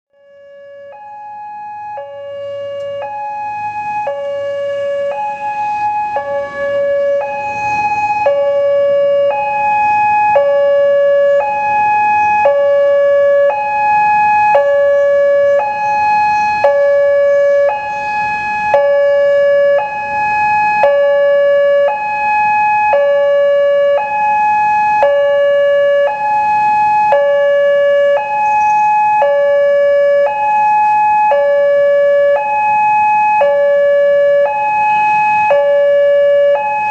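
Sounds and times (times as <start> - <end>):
two-tone crossing warning alarm: 0.1 - 36.9.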